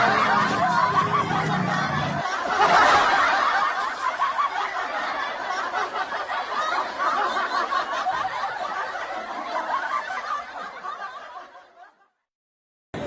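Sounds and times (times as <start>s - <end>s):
laughter: 0.0s - 12.2s.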